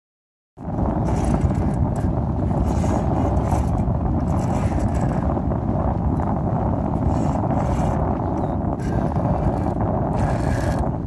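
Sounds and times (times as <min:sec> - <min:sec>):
boat engine rumbling: 0:00.6 - 0:11.0
wind on microphone: 0:00.6 - 0:11.0.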